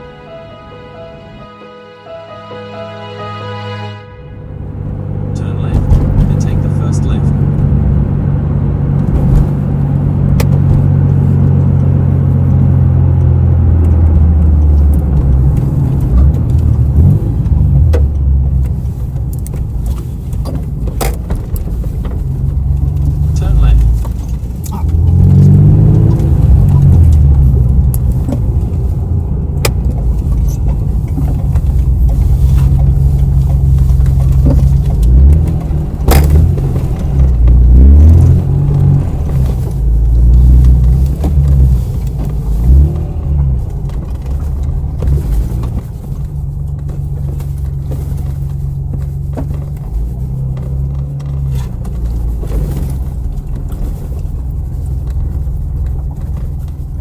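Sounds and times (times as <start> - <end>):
car engine driving: 0.0 - 57.0.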